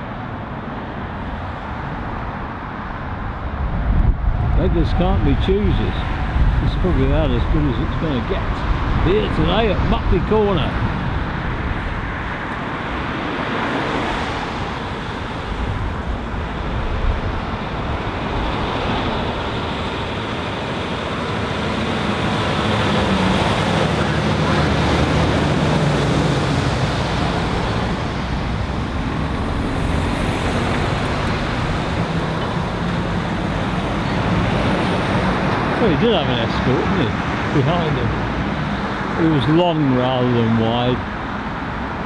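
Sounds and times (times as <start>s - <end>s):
road traffic: 0.0s - 42.0s
truck diesel engine passing: 4.7s - 42.0s.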